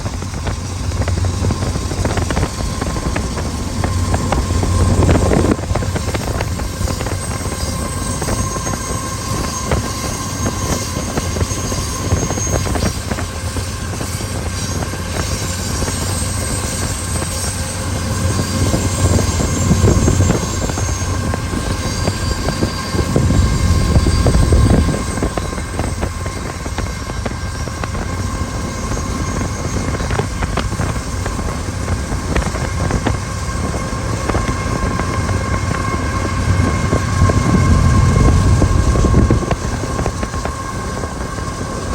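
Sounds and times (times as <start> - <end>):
diesel locomotive engines rumbling: 0.0 - 41.9
train wheels clicking on rails: 0.0 - 41.9.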